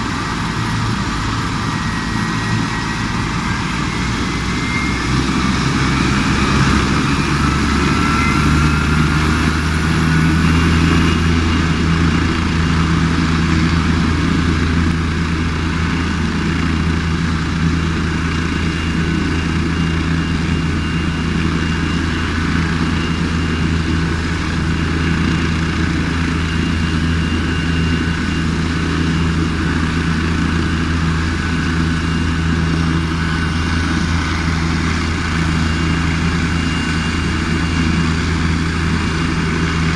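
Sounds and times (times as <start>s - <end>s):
faint rising whine: 0.0s - 39.9s
helicopter rotor and engine drone: 0.0s - 39.9s
thin high whine: 0.0s - 39.9s.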